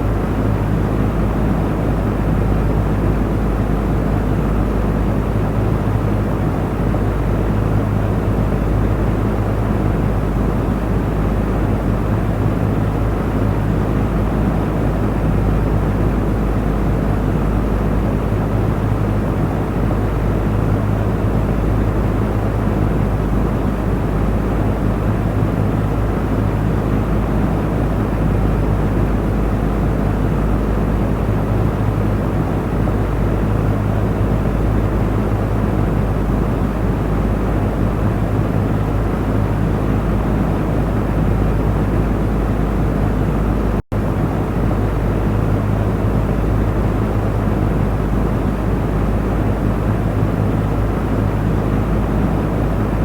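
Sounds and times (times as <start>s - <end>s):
electric fan running: 0.0s - 53.0s.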